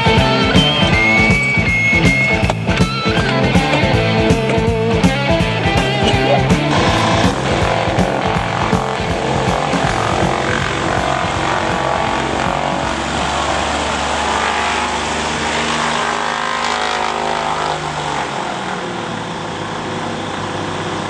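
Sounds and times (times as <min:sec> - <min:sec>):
propeller plane engine passing: 0:00.0 - 0:21.0.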